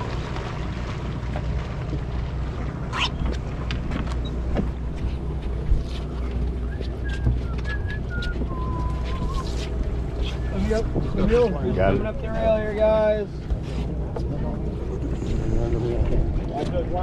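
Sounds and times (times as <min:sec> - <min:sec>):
boat machinery hum: 0:00.0 - 0:17.0.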